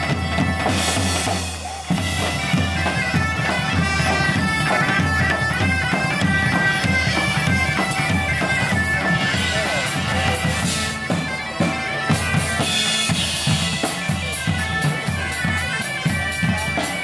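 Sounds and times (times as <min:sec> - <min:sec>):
bagpipes playing a melody: 0:00.0 - 0:17.0
large drums beating: 0:00.0 - 0:17.0.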